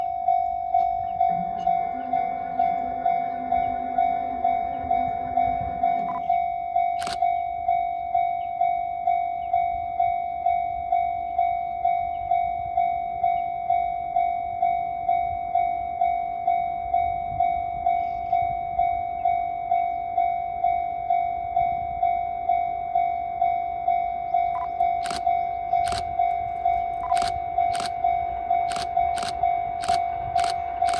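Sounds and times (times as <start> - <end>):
level crossing warning bell: 0.0 - 30.9.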